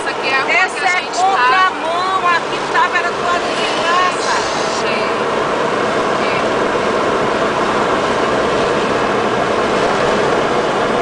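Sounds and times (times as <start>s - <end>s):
heavy rain and water against car: 0.0s - 11.0s.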